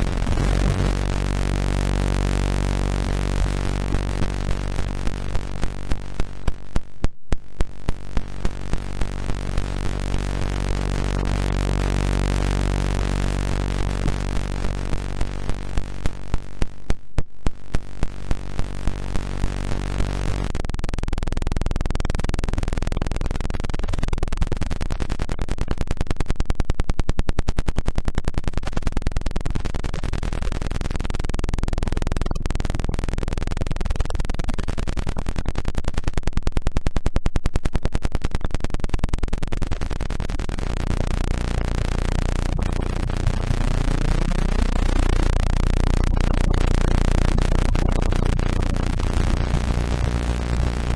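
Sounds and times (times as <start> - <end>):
low pulsing electronic buzz: 0.0 - 50.9
rapidly fluttering noisy hum: 0.0 - 50.9.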